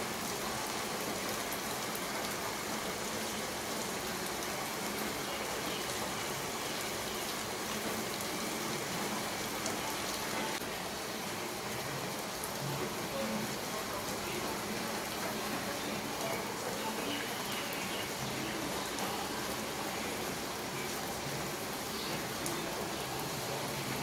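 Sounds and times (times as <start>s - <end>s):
rain on leaves and paving: 0.0s - 24.0s.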